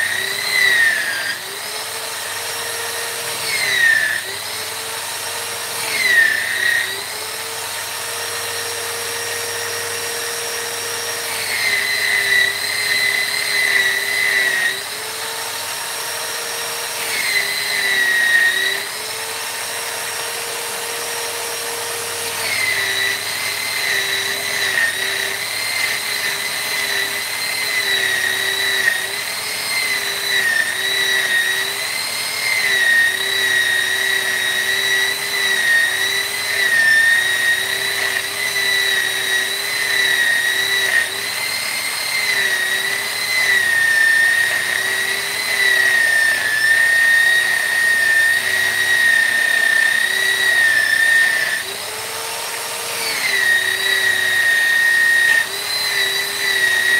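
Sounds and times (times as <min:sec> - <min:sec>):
rotary carving tool whining: 0:00.0 - 0:56.9.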